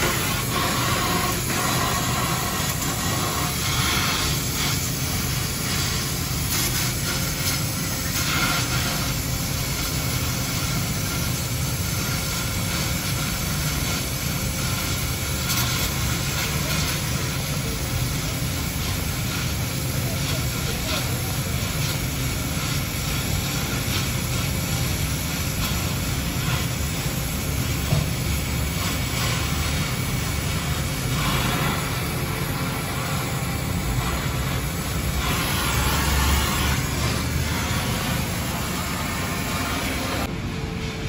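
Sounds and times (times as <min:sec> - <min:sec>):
welding crackling hiss: 0:00.0 - 0:40.3.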